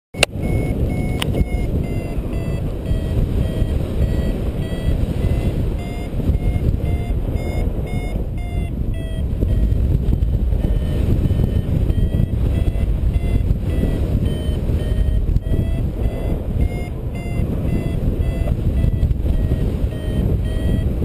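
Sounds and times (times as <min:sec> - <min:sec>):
variometer beeping: 0:00.1 - 0:21.0
wind rush on microphone: 0:00.2 - 0:21.0.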